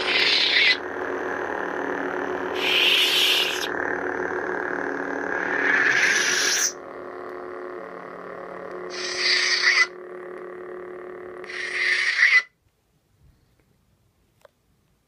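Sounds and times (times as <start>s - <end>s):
lightsaber power-down sound: 0.0s - 12.4s
lightsaber humming: 0.0s - 12.5s.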